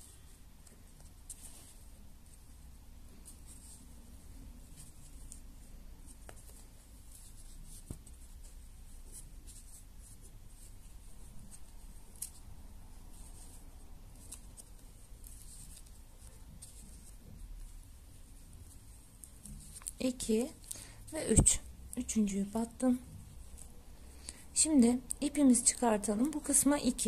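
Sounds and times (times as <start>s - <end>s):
crochet hook scratching yarn: 0.0s - 21.7s.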